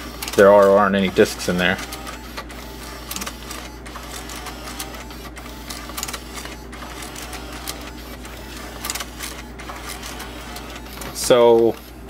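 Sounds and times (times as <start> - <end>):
cd changer mechanism whirring: 0.0 - 12.0.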